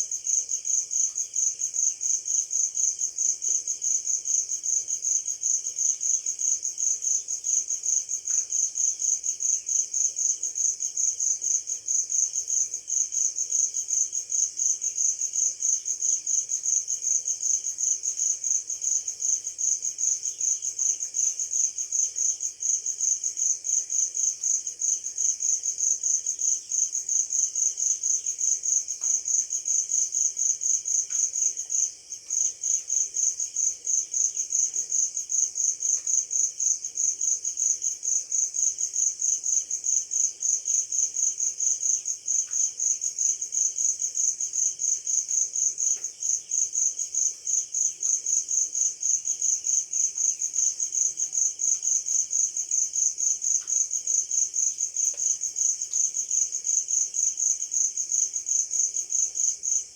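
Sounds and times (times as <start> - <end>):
insect chirping: 0.1 - 59.9.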